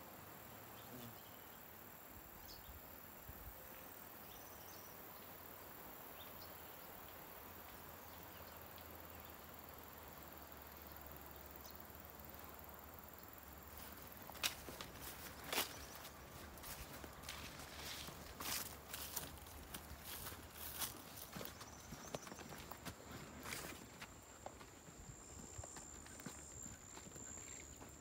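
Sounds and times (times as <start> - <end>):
insect chirps: 0.1 - 28.0.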